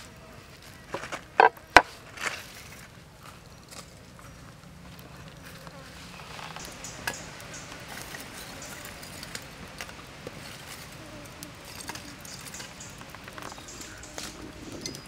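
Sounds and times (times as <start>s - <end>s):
campfire crackling: 0.0s - 15.0s
steady fire hiss: 0.0s - 15.0s.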